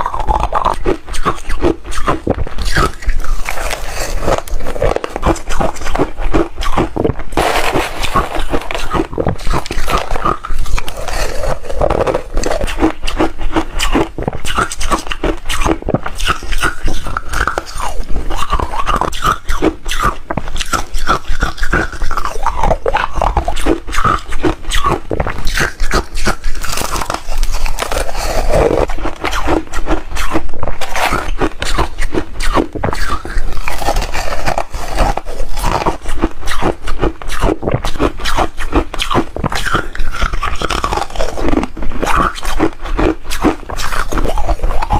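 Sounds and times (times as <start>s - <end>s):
chewing crunchy ice: 0.0s - 44.9s.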